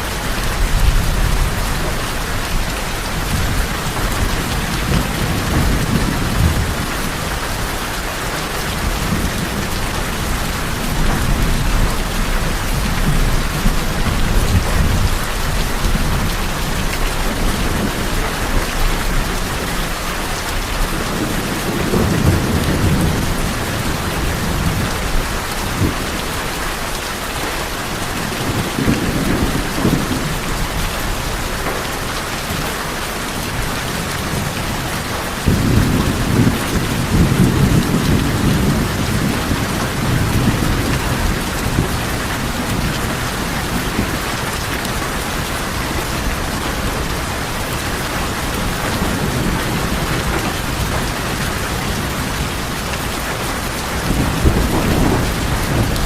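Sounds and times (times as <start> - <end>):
heavy rain on a tin roof: 0.0 - 56.0
low thunder rumbling: 0.1 - 26.9, 28.0 - 31.7, 33.4 - 56.0.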